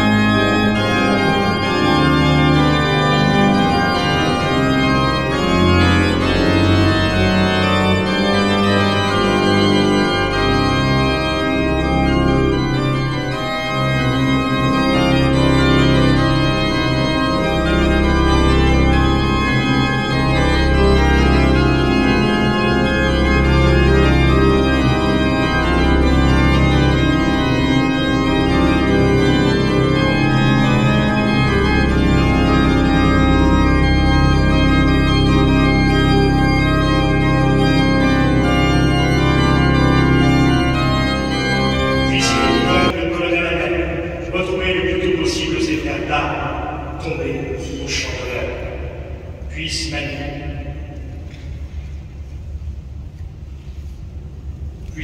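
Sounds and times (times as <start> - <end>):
pipe organ playing slow chords: 0.0 - 55.0.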